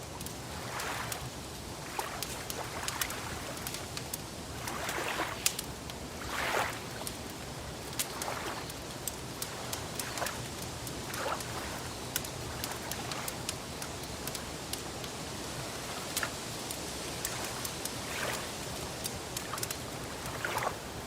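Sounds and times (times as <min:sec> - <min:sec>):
wood fire crackling: 0:00.0 - 0:21.0
water lapping: 0:00.2 - 0:21.0.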